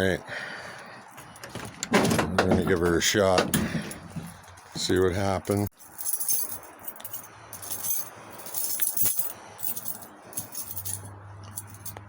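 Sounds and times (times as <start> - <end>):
keys jangling: 1.2 - 5.0, 5.8 - 12.0.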